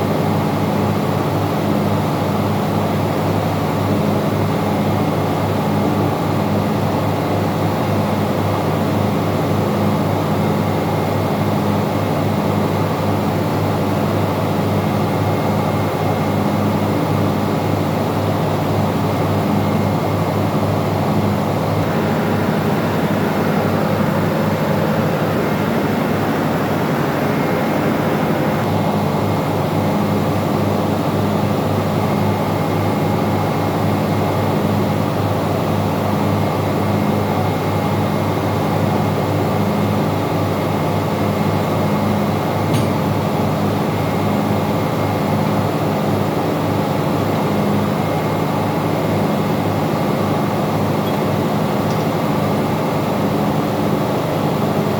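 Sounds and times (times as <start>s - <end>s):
engine room machinery hum: 0.0s - 54.9s.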